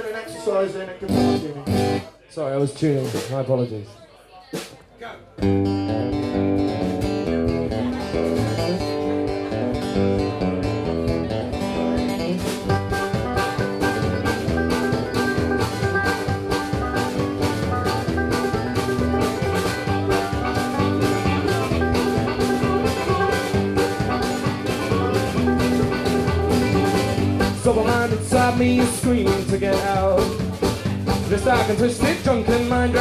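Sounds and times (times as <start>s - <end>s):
live band playing upbeat instrumental: 0.0s - 2.2s, 2.8s - 3.8s, 5.4s - 33.0s.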